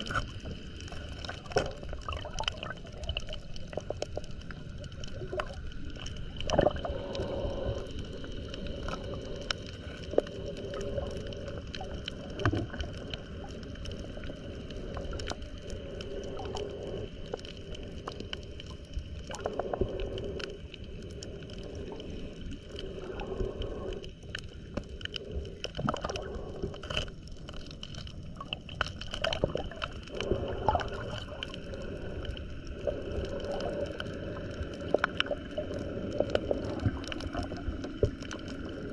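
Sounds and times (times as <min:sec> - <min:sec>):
low underwater rumble: 0:00.0 - 0:38.9
muffled water swell: 0:00.0 - 0:38.9
underwater clicks and crackles: 0:00.0 - 0:38.9.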